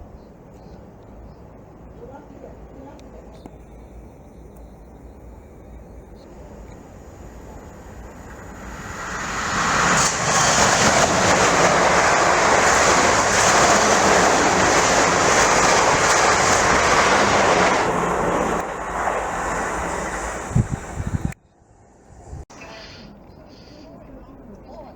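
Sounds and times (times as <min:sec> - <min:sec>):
train passing at speed: 0:00.0 - 0:22.8.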